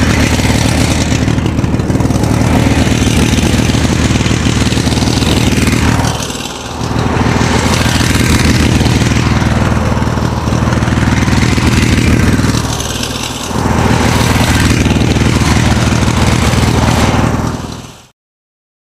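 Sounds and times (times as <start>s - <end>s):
small combustion engine running: 0.0s - 18.1s.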